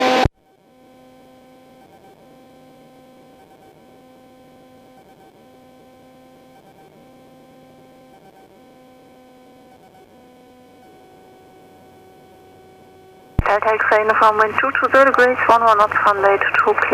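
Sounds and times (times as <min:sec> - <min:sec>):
electrical hum with wobble: 0:00.0 - 0:16.9.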